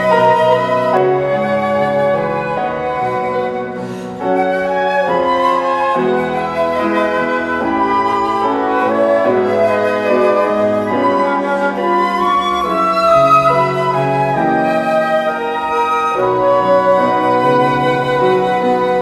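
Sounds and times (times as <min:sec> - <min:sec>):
slow flute melody: 0:00.0 - 0:19.0.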